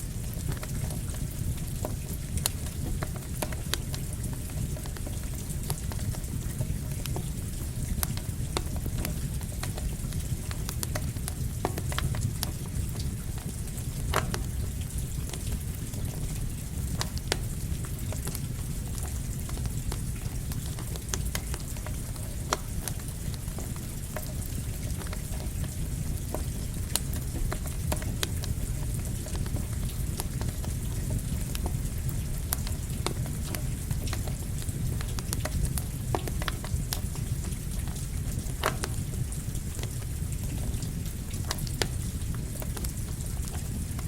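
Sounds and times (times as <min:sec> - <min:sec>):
campfire crackling and popping: 0:00.0 - 0:44.0
rain falling: 0:00.0 - 0:44.0.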